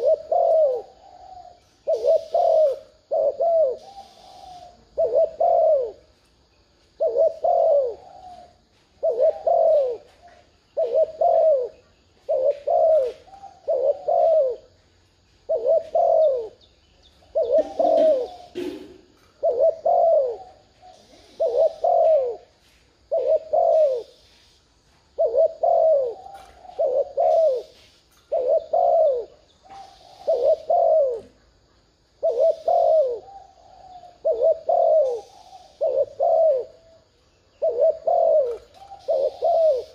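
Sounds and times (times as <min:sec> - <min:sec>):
dove cooing: 0:00.0 - 0:06.2, 0:06.9 - 0:24.4, 0:25.1 - 0:39.9.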